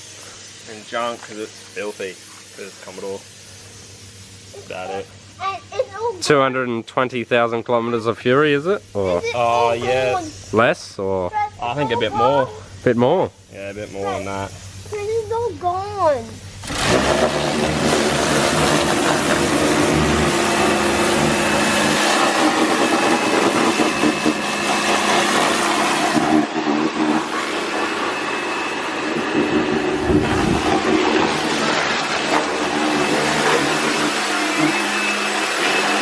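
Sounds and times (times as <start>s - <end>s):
machine running with loud hiss: 0.0s - 36.0s.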